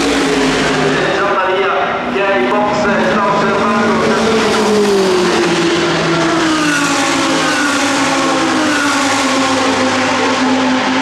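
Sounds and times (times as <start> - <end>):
other race car engines: 0.0 - 11.0
race car engine: 0.0 - 11.0.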